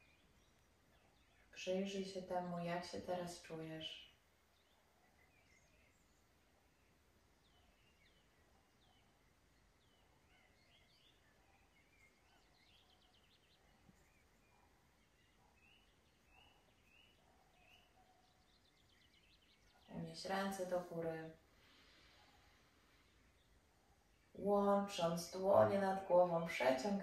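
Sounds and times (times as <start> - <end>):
faint small birds chirping: 0.0 - 27.0.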